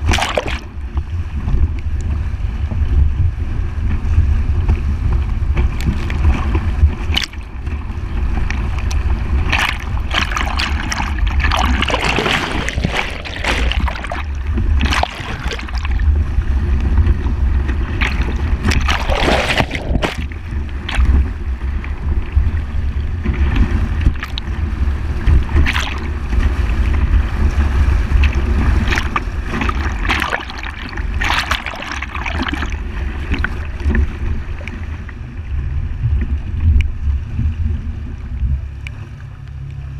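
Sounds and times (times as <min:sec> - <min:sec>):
water splashing against vehicle: 0:00.0 - 0:01.6, 0:02.7 - 0:34.9
low vehicle rumble: 0:00.0 - 0:31.2, 0:32.1 - 0:39.9.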